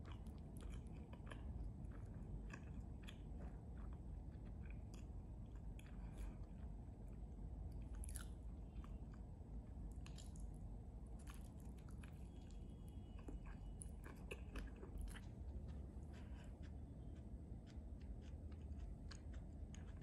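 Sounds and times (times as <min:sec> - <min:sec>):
person chewing crunchy food: 0:00.0 - 0:09.3, 0:09.9 - 0:10.5, 0:11.1 - 0:20.0.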